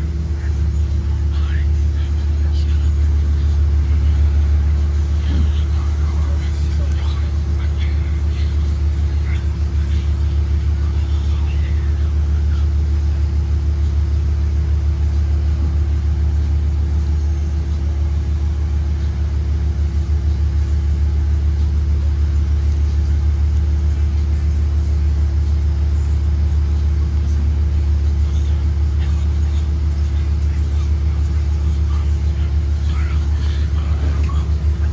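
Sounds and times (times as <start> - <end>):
bus engine and road rumble: 0.0 - 34.9
constant hum: 0.0 - 34.9.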